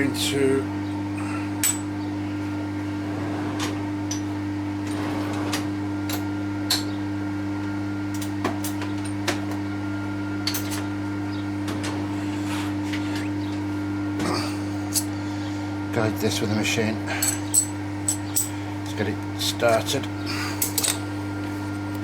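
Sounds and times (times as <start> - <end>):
electric machine hum: 0.0 - 22.0.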